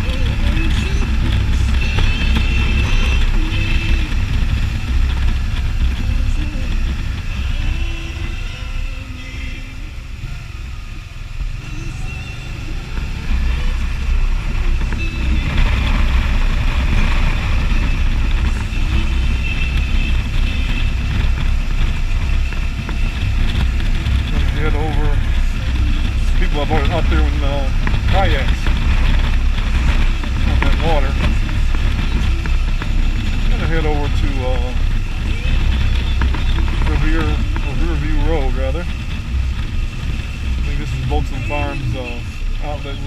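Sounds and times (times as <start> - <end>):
motorcycle engine: 0.0 - 43.0
road noise: 0.0 - 43.0.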